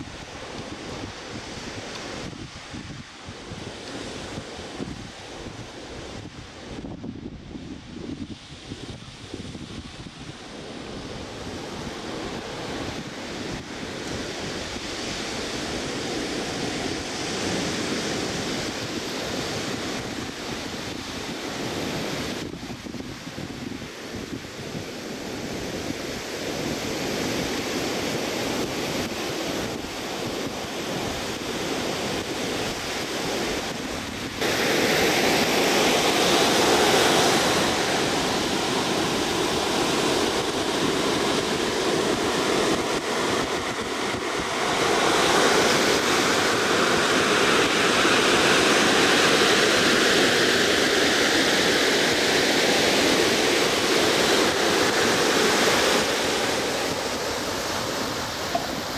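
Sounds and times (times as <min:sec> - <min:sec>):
ocean surf washing onto beach: 0:00.0 - 0:58.9
wind on microphone: 0:00.0 - 0:58.9.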